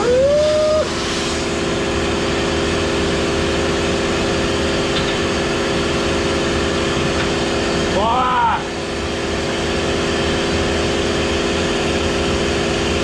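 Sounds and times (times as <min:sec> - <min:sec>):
laser cutter machine hum: 0:00.0 - 0:13.0.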